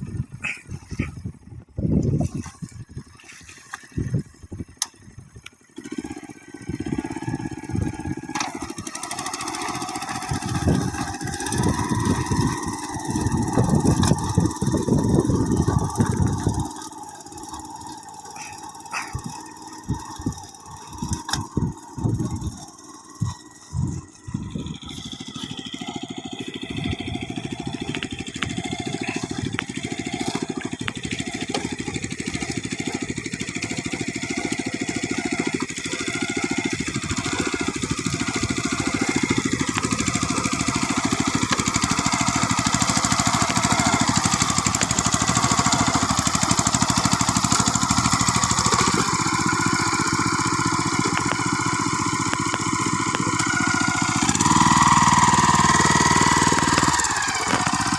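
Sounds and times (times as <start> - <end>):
small engine running: 0.0 - 57.9.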